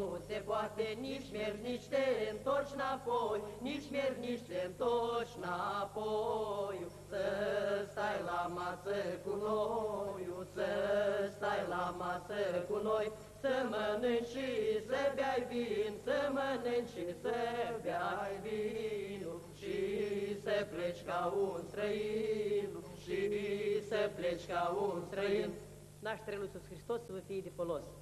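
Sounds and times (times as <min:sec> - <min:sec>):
men singing a carol: 0:00.0 - 0:25.6.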